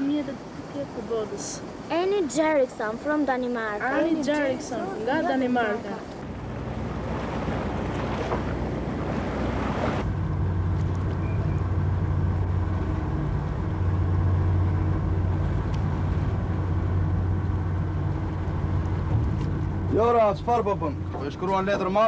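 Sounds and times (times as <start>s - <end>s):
rush of sea and wind: 0.0s - 22.0s
boat engine droning: 3.8s - 22.0s.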